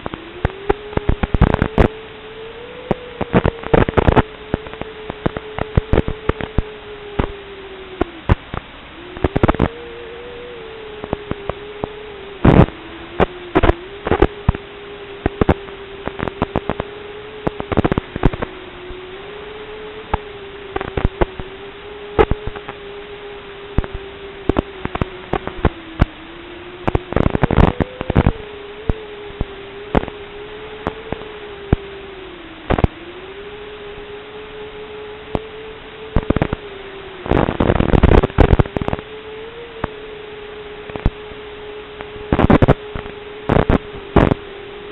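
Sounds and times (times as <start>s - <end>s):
static crackles and clicks: 0.0s - 44.9s
wavering electronic tone: 0.0s - 44.9s.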